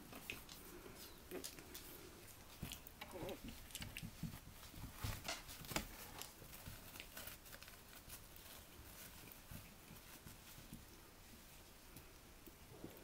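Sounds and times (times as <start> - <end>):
puppies' paws scrabbling: 0.0 - 13.0.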